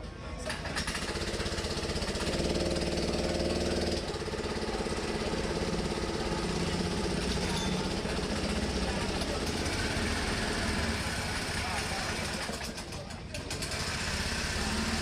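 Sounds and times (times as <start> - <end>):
motorcycle engine revving: 1.0 - 12.3, 13.6 - 15.0.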